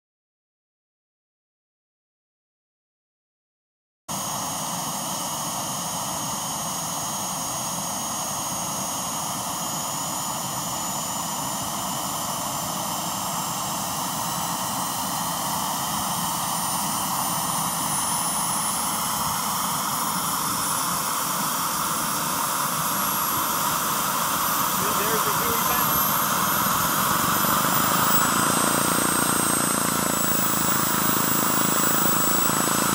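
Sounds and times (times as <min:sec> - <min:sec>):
turbine engine whine: 0:04.1 - 0:32.9.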